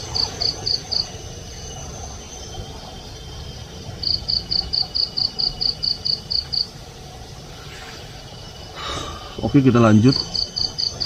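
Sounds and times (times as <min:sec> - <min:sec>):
cricket chirping: 0:00.0 - 0:11.0
high insect trill: 0:00.0 - 0:11.0.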